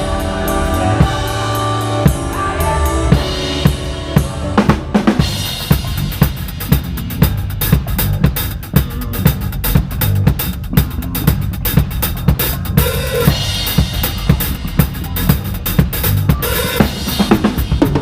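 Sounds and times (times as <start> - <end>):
band music: 0.0 - 18.0.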